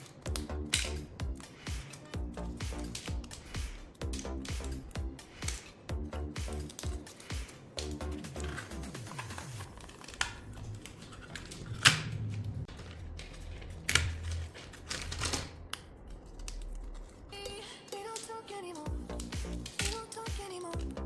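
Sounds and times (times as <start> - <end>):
wooden parts clicking together: 0.0 - 21.0.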